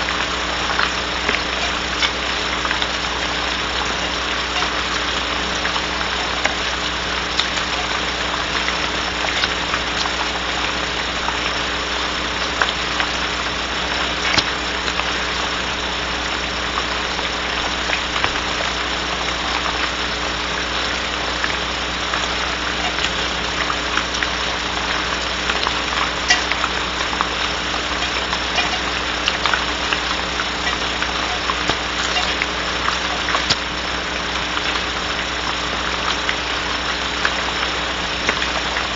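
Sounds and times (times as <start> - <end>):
electrical hum: 0.0 - 38.9
rain on wooden box: 0.0 - 38.9.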